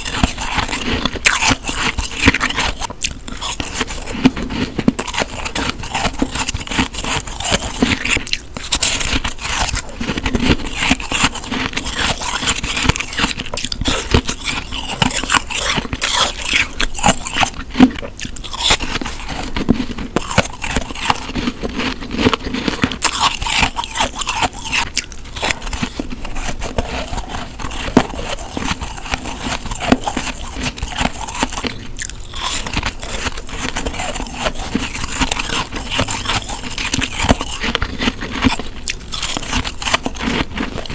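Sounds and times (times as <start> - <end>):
chewing packed snow crunching: 0.0 - 40.9.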